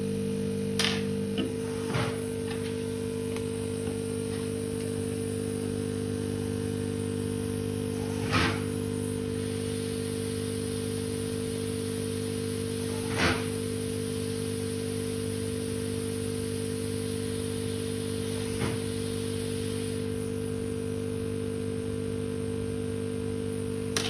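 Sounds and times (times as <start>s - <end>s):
steady electric hum: 0.0s - 24.0s.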